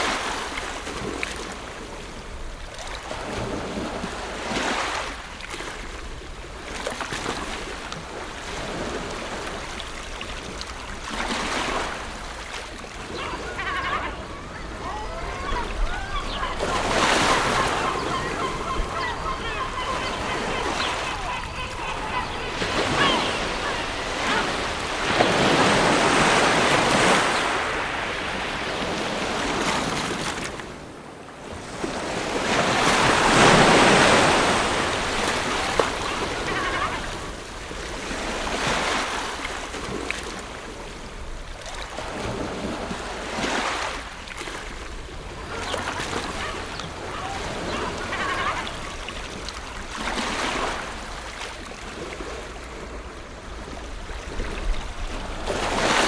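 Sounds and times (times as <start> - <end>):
low rumble of surf: 0.0 - 56.0
ocean waves surging and washing back: 0.0 - 56.0.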